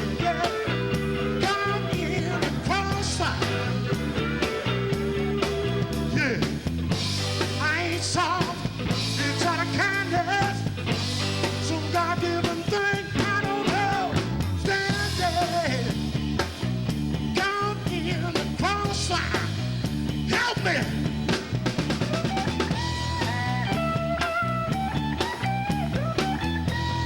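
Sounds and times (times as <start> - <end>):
melodic lead line bending: 0.0 - 27.0
rock band music: 0.0 - 27.0.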